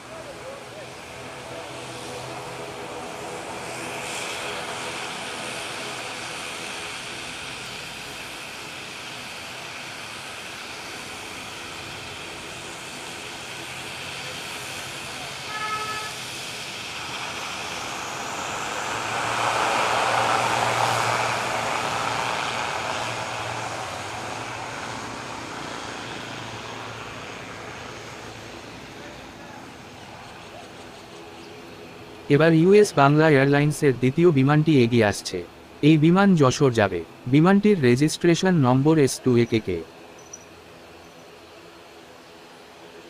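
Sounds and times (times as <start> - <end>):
road traffic: 0.0 - 43.0
turboprop engines droning: 0.0 - 43.0
rushing noise: 0.8 - 43.0.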